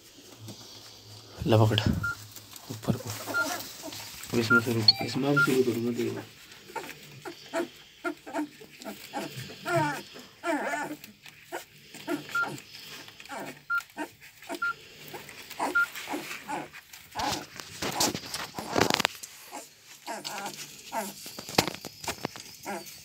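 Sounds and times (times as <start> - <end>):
rustling: 0.0 - 23.0
puppies whimpering and squeaking: 2.9 - 23.0.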